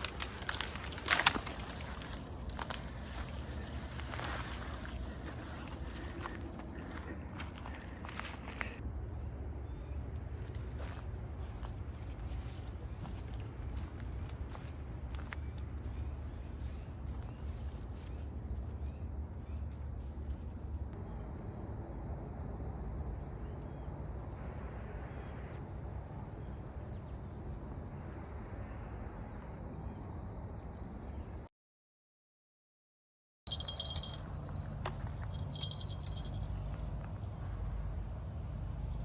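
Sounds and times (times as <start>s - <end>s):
insects chorus: 0.0s - 31.5s, 33.5s - 39.0s.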